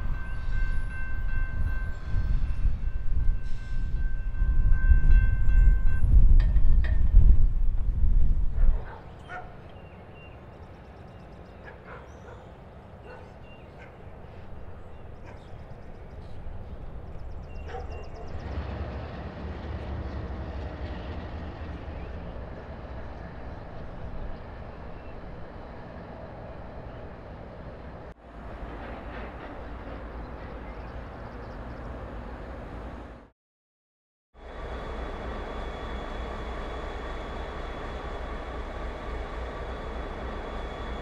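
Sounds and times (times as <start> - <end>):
freight train rumbling: 0.0 - 33.3, 34.4 - 41.0.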